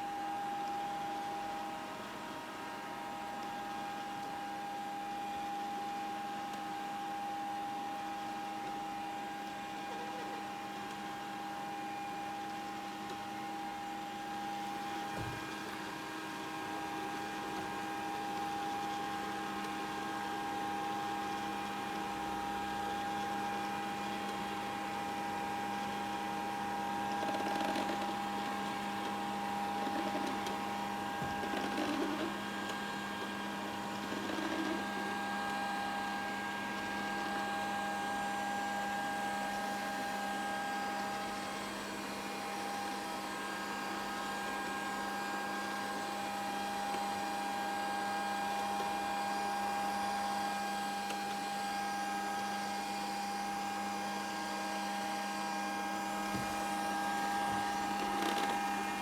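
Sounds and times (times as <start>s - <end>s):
robot vacuum cleaner running: 9.4s - 59.0s.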